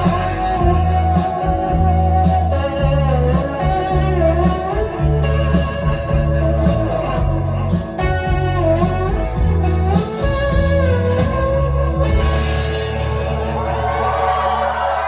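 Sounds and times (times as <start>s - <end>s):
bass: 0.0s - 15.0s
drums: 0.0s - 15.0s
electric guitars: 0.0s - 15.0s.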